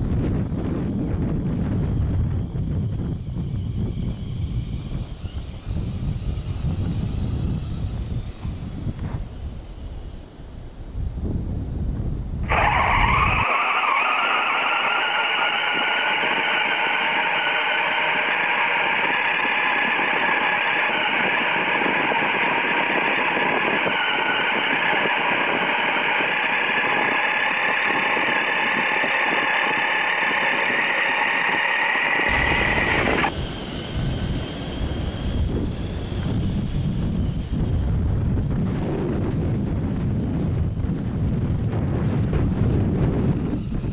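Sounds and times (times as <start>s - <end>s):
electric motors whining: 0.0s - 43.9s.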